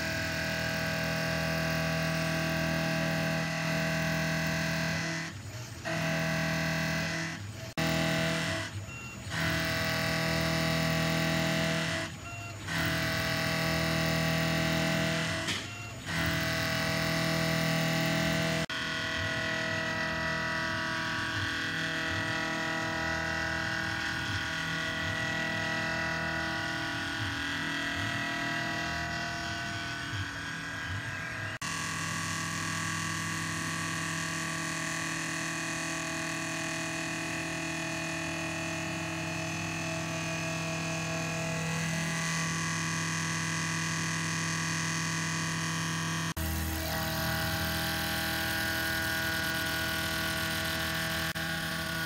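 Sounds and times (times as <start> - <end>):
machine-tool motors whining: 0.0 - 52.0.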